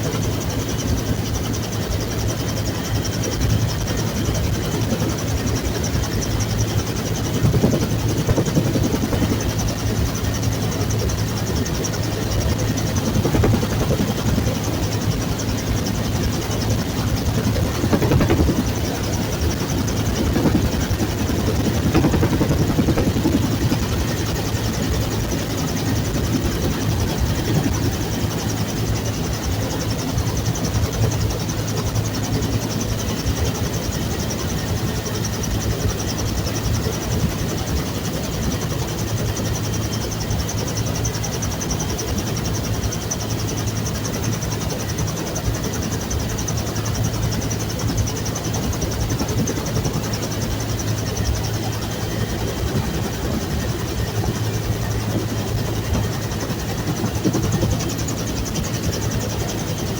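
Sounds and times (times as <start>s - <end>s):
constant low hum: 0.0s - 59.9s
helicopter rotor and turbine: 0.0s - 59.9s.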